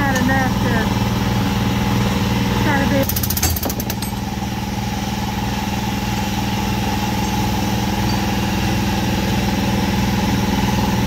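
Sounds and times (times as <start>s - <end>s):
machine droning: 0.0s - 11.0s.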